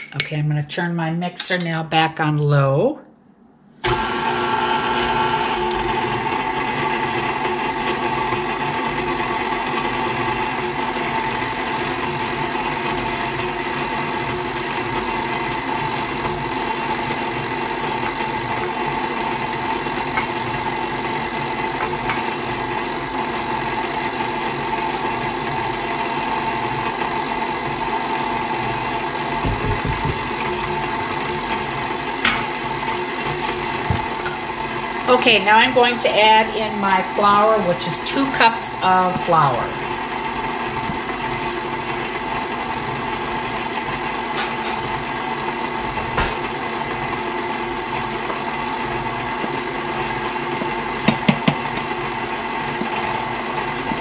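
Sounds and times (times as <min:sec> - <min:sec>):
stand mixer motor humming: 0:03.8 - 0:54.0.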